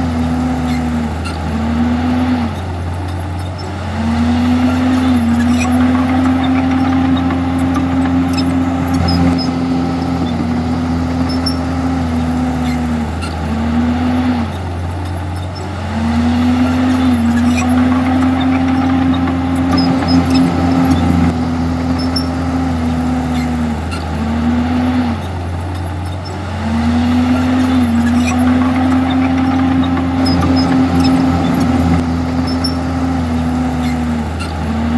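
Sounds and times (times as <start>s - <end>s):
bulldozer diesel engine under load: 0.0s - 34.9s.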